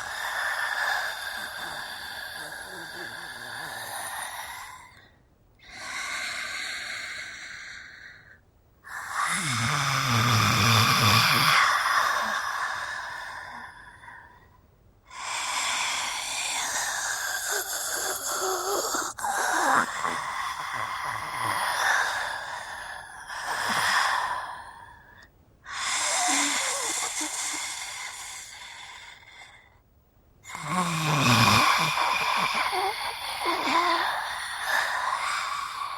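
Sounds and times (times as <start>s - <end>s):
raspy hissing monster breaths: 0.0s - 14.5s, 15.1s - 29.8s, 30.5s - 35.9s.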